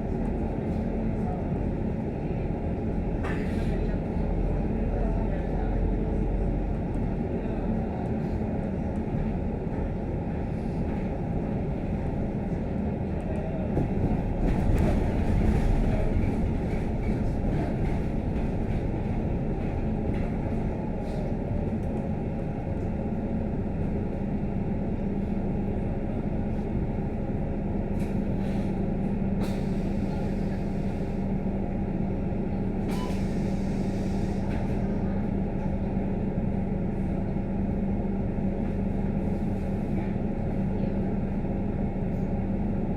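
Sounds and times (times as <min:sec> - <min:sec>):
bus engine and road noise drone: 0:00.0 - 0:42.9.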